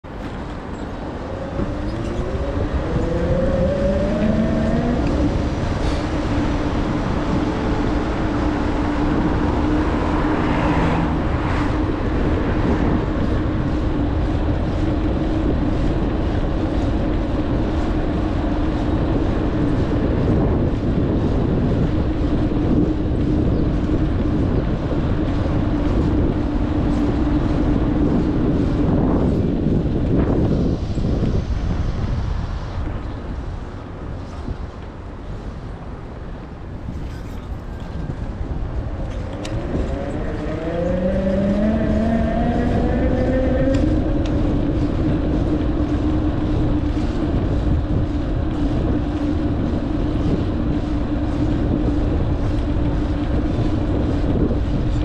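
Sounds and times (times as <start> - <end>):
bicycle hum rising in pitch: 0.0 - 55.0
road and wind noise: 0.0 - 55.0.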